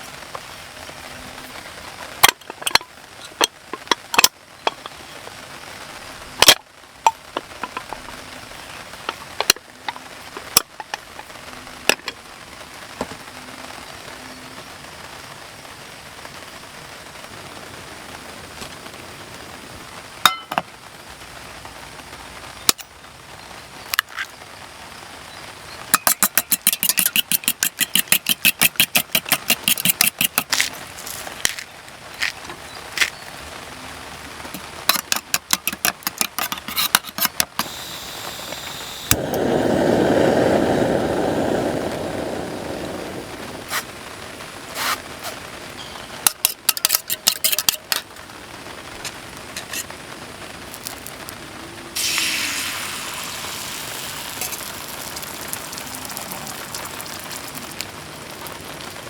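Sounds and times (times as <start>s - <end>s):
rain hissing: 0.0s - 59.0s.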